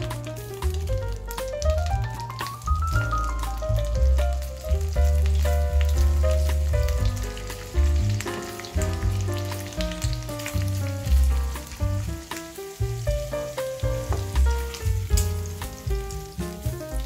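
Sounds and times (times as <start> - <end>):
background music with deep bass: 0.0 - 17.0
bacon sizzling in a frying pan: 0.0 - 17.0.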